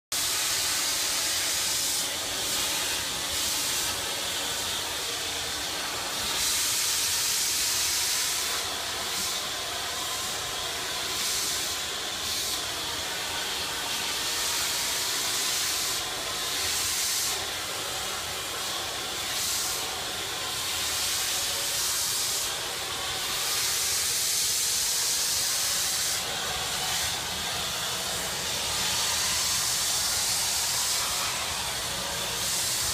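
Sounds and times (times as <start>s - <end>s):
vacuum cleaner running: 0.1s - 32.9s.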